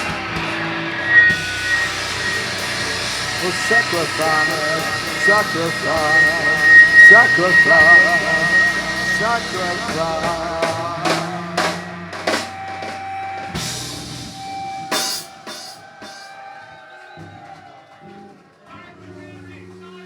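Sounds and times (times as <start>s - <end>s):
live rock band: 0.0s - 16.7s
drum and cymbal hits: 0.0s - 18.6s.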